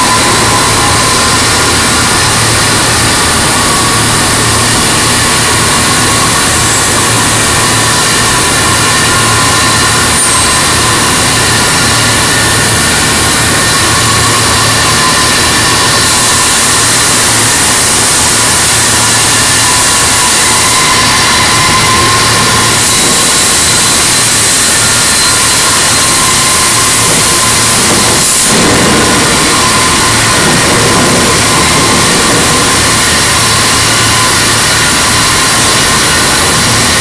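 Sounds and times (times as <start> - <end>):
low machinery hum: 0.0 - 37.0
machinery whining tones: 0.0 - 37.0.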